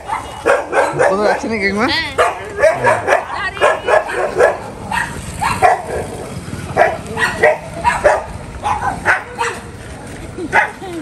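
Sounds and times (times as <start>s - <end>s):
dog barking: 0.0s - 9.7s, 10.5s - 10.8s.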